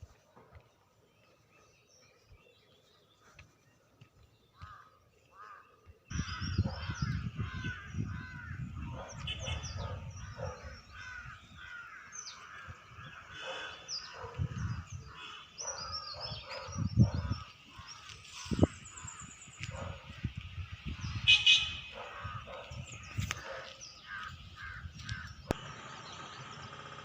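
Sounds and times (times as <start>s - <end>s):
birds calling and chirping: 0.0s - 27.0s.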